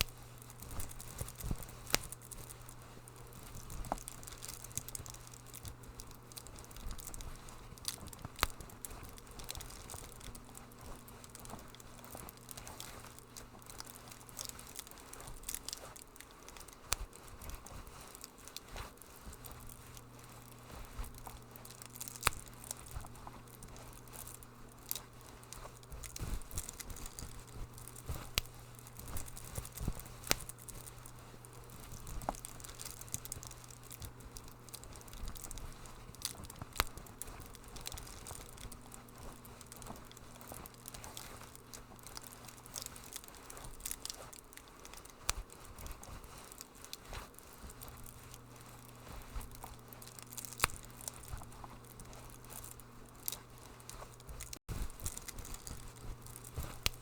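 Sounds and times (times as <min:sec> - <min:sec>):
low steady hum: 0:00.0 - 0:57.0
wood fire crackling: 0:00.0 - 0:57.0.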